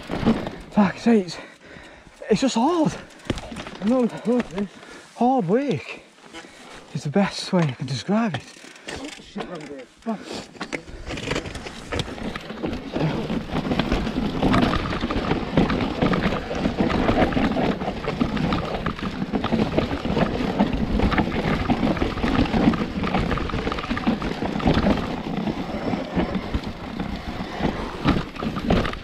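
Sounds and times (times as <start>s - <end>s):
mountain bike rattling over rocks: 0.0s - 29.0s.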